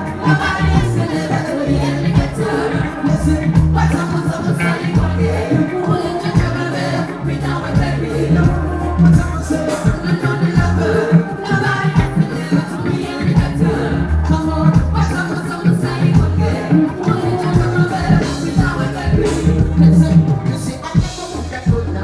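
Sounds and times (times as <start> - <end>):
live pop music with heavy bass: 0.0 - 22.0
person singing: 0.0 - 22.0.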